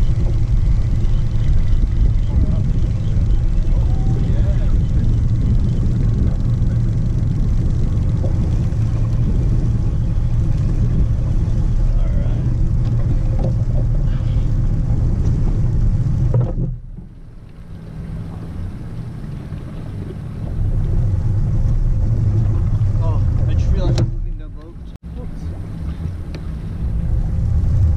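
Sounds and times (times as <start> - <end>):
boat motor rumble: 0.0 - 27.9
wind buffeting microphone: 0.0 - 27.9.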